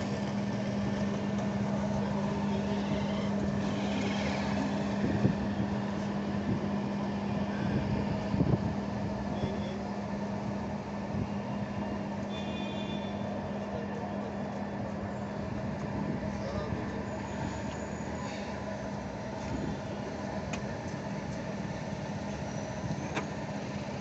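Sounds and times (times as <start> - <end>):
engine humming: 0.0 - 24.0
street noise: 0.0 - 24.0.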